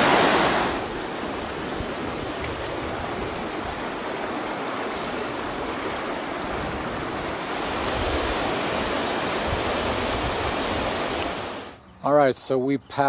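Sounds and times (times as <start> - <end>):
wind buffeting microphone: 0.0 - 11.6
river rushing over riffles: 0.0 - 11.8.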